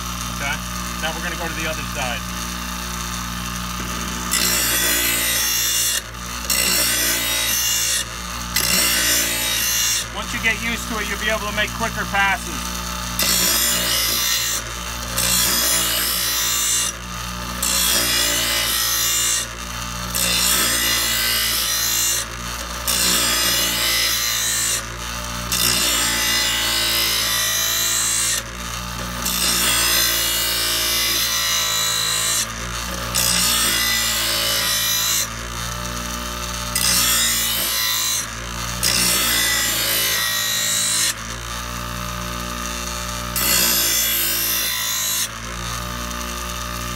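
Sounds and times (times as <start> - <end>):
bench grinder motor hum: 0.0 - 46.9
blade grinding on wheel: 0.0 - 46.9.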